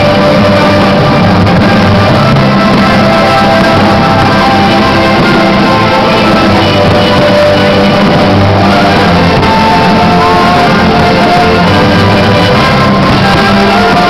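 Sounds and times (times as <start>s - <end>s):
loud rock music with guitar: 0.0s - 14.0s.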